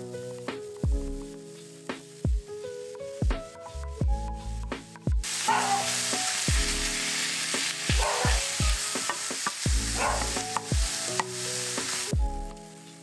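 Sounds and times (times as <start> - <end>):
meat and onion sizzling in pan: 0.3 - 2.9, 4.2 - 13.0.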